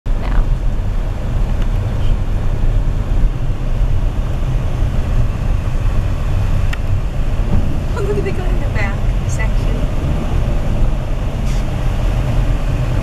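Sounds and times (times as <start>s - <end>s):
car engine rumble inside cabin: 0.1s - 13.0s.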